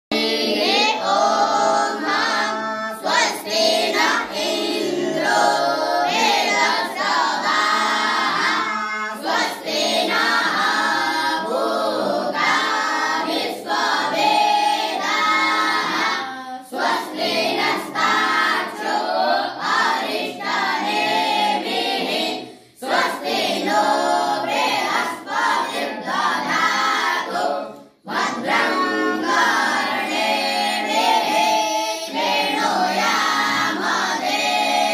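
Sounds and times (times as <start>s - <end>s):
boys' chorus singing: 0.1s - 34.9s.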